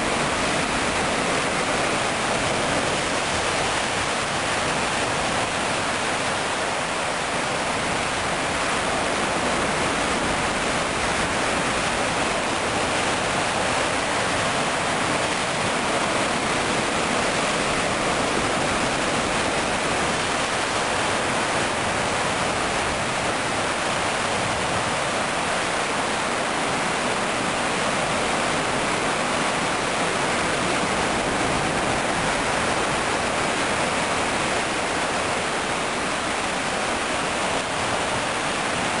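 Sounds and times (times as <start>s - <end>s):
sea surf over rocks: 0.0s - 39.0s.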